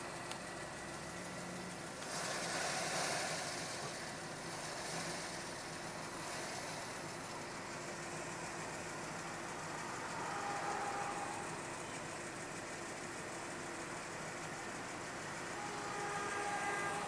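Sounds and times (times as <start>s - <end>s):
car engine hum and road noise: 0.0s - 17.0s.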